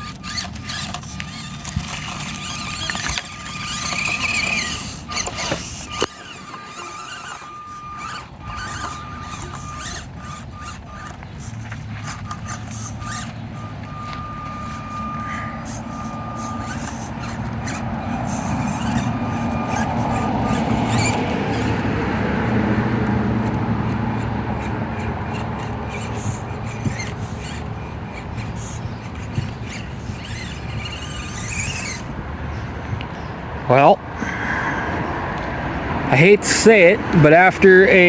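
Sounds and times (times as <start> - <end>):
small electric motor whining: 0.0 - 33.5, 34.2 - 38.0.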